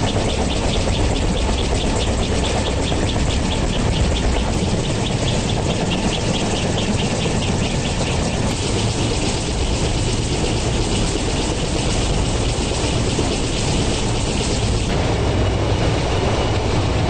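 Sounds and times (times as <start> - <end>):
faint rapid high pulsing: 0.0 - 14.9
helicopter turbine and rotor noise: 0.0 - 17.0.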